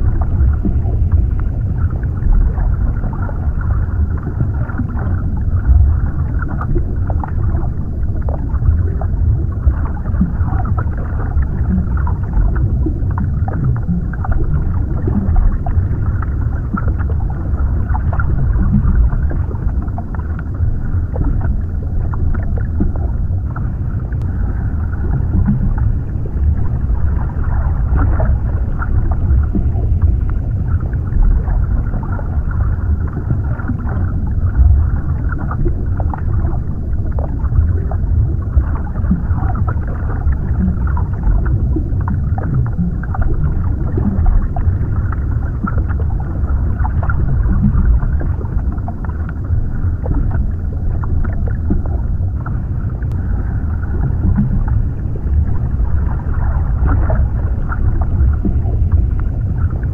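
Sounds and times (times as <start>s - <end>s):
muffled underwater rumble: 0.0s - 59.9s
underwater pops and gurgles: 0.0s - 59.9s.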